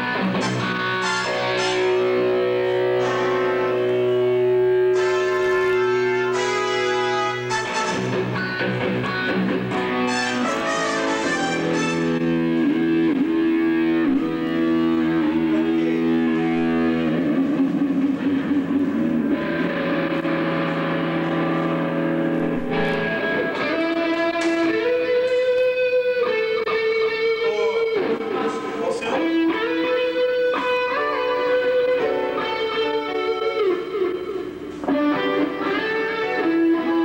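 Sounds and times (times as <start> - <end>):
electric guitar bending notes: 0.0 - 37.0.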